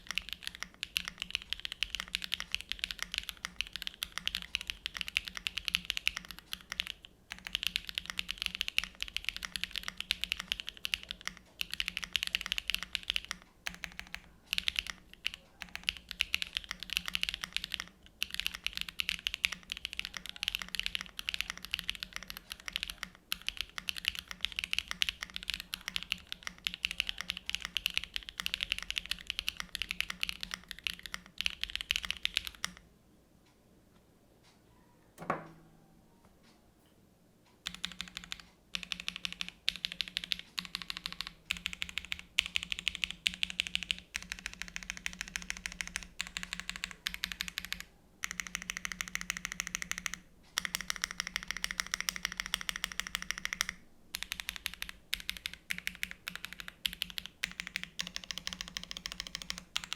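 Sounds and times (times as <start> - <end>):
mechanical keyboard typing: 0.0 - 32.8, 37.6 - 59.9.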